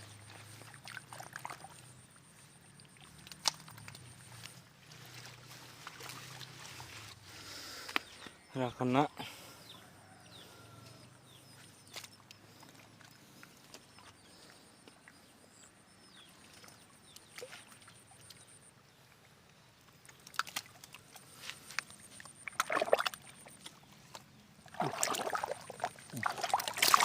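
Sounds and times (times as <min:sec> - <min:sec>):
water splashing and sloshing: 0:00.0 - 0:08.4, 0:11.3 - 0:27.0.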